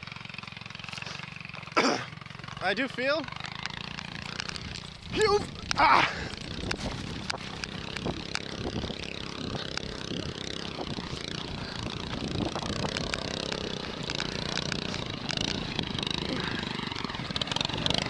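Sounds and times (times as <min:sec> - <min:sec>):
go-kart engine running: 0:00.0 - 0:18.0
sharp clicks: 0:03.3 - 0:18.0.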